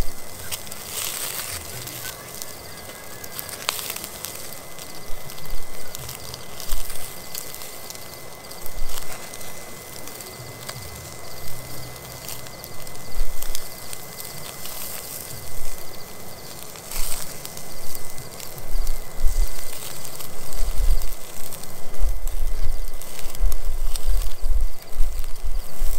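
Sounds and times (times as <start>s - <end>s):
air whooshes at fire: 0.0s - 25.9s
fire crackling: 0.0s - 25.9s.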